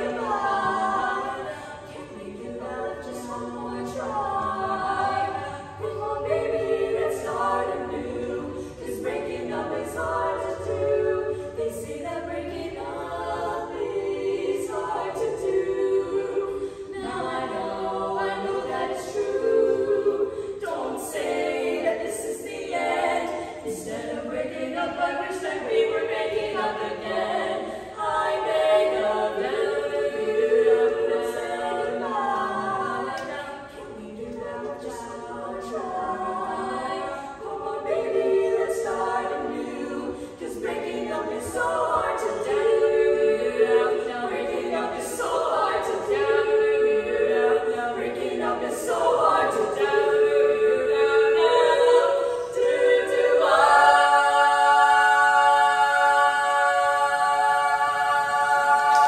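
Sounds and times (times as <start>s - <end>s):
women singing a cappella: 0.0s - 59.0s.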